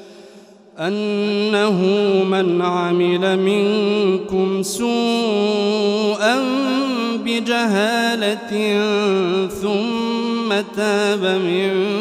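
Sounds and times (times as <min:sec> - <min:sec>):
man chanting melodic recitation: 0:00.8 - 0:12.0.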